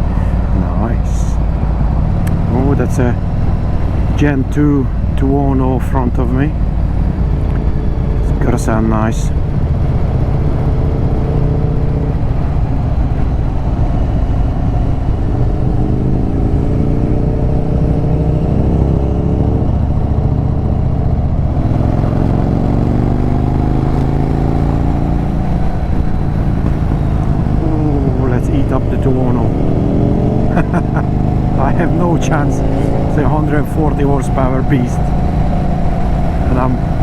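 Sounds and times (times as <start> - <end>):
motorcycle engine accelerating: 0.0 - 37.0
wind rumble on microphone: 0.0 - 37.0.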